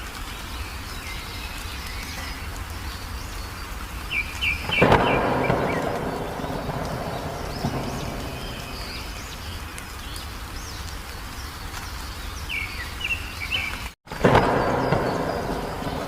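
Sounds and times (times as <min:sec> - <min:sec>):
wild birds chirping: 0:00.0 - 0:16.0.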